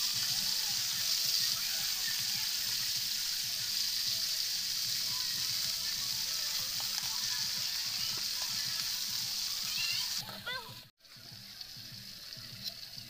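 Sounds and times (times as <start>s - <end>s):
fish sizzling in a wok: 0.0s - 13.0s.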